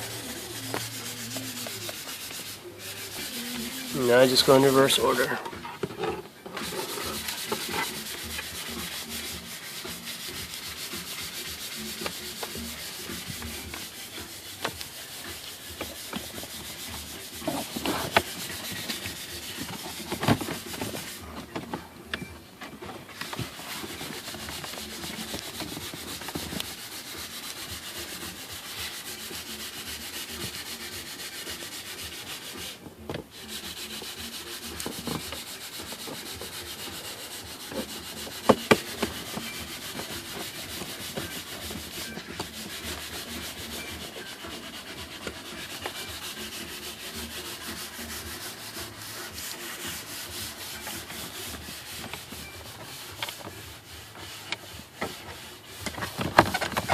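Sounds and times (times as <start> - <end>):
hands rubbing plastic trim: 0.0 - 21.8, 23.0 - 56.9.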